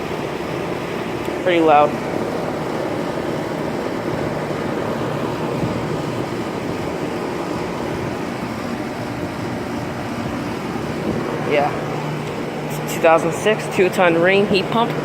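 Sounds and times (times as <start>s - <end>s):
air conditioner units humming: 0.0s - 15.0s.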